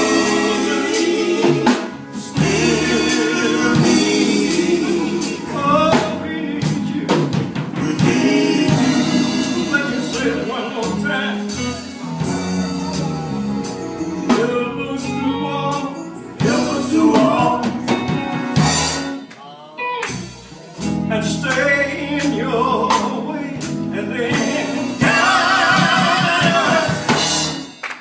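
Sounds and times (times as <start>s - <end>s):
male vocal group singing gospel: 0.0s - 19.0s, 20.8s - 27.6s
band with drums: 0.0s - 19.4s, 20.0s - 28.0s.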